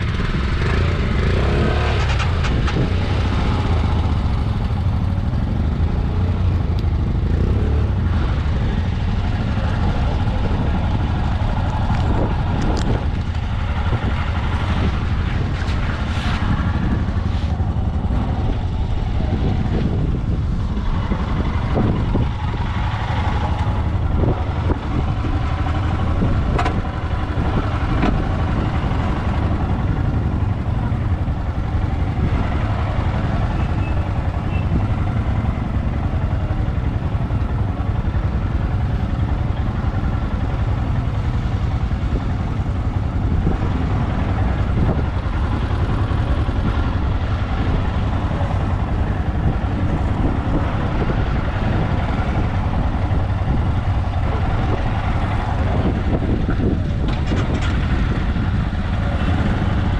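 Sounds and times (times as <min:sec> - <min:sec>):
motorcycle engine drone: 0:00.0 - 0:59.9
road and wind noise: 0:00.0 - 0:59.9.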